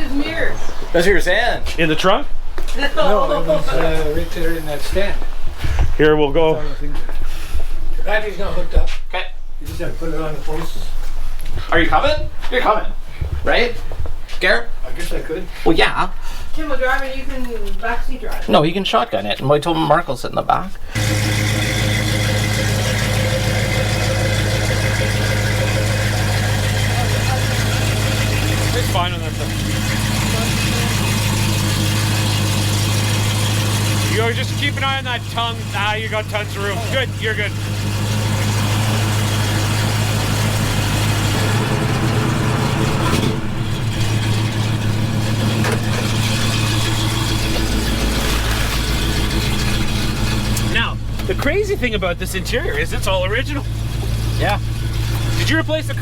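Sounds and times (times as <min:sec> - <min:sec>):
car engine idling: 0:00.0 - 0:08.7, 0:19.8 - 0:56.0.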